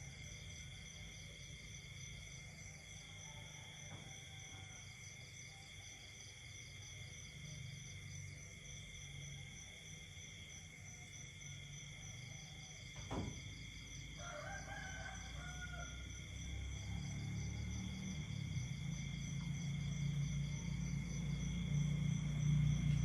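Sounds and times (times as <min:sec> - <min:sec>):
night insects trilling: 0:00.0 - 0:23.0.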